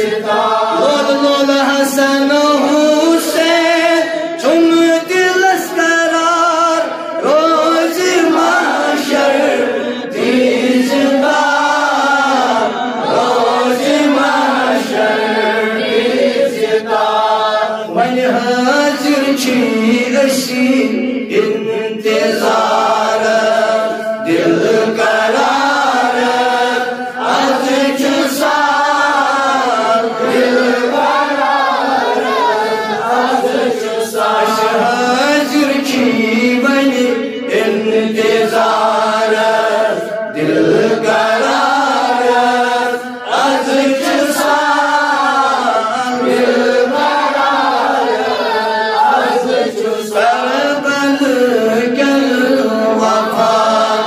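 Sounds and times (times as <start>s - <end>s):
man chanting into a microphone: 0.0s - 54.0s.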